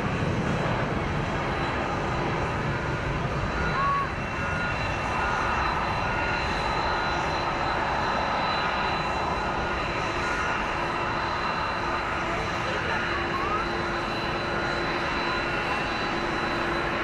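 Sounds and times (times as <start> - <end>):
jet engine rushing and whining: 0.0 - 17.0.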